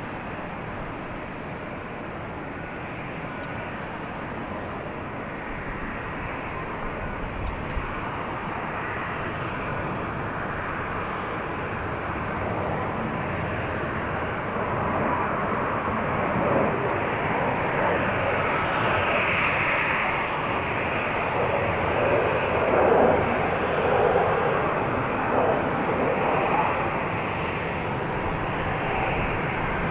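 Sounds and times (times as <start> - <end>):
jet airliner engines rushing: 0.0 - 29.9.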